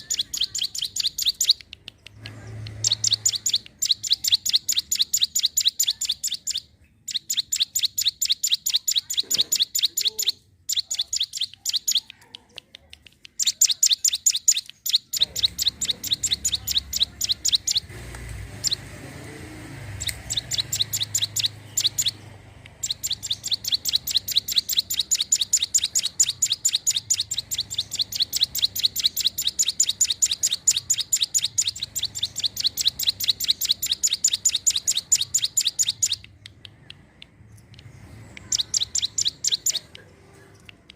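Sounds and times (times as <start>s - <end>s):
bird singing high sharp chips: 0.0s - 40.9s.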